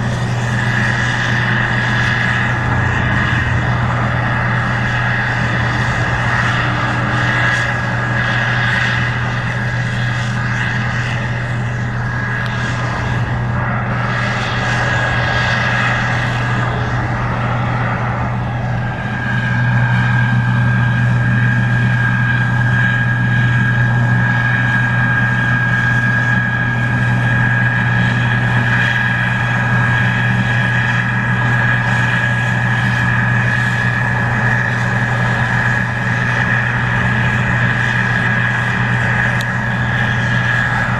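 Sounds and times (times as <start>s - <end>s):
diesel engine drone: 0.0s - 40.9s
high steady whine: 0.0s - 40.9s.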